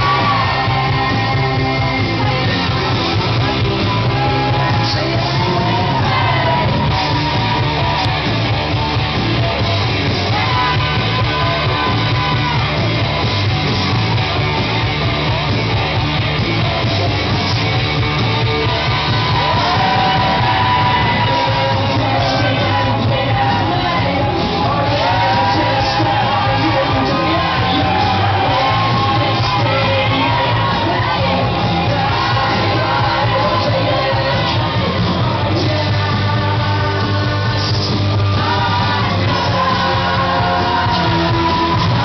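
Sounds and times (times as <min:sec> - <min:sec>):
loud music with singing: 0:00.0 - 0:42.0.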